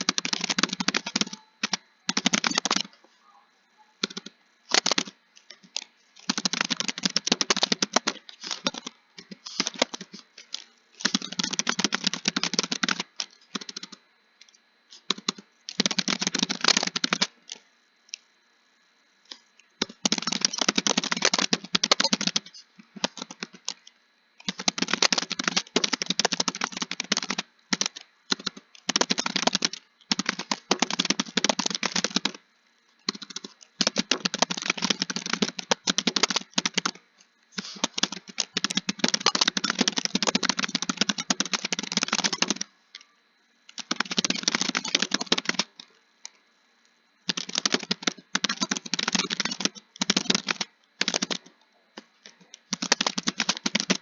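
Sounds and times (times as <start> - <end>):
fast typing on keyboard: 0.0 - 3.0, 4.0 - 14.0, 14.9 - 18.2, 19.3 - 32.4, 33.0 - 37.0, 37.6 - 42.7, 43.7 - 45.9, 47.3 - 51.5, 52.3 - 54.0.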